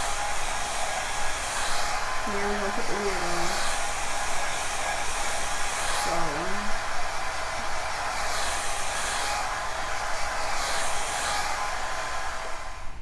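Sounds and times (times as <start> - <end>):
blow dryer running: 0.0 - 13.0.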